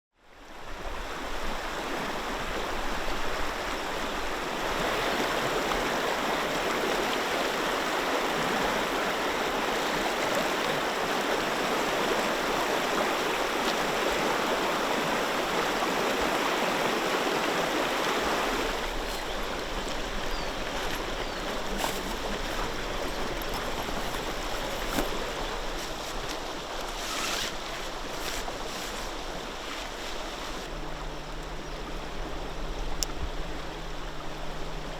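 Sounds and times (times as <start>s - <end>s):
river rushing over stones: 0.8s - 31.4s.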